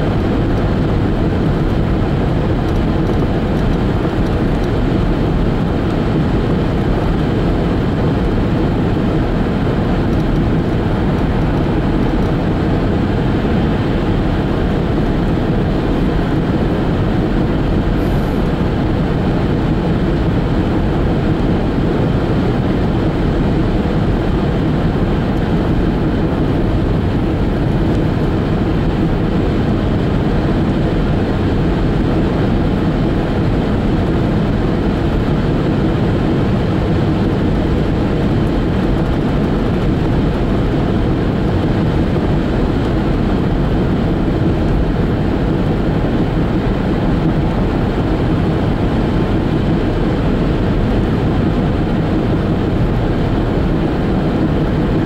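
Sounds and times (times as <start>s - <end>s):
car road noise drone: 0.0s - 55.0s.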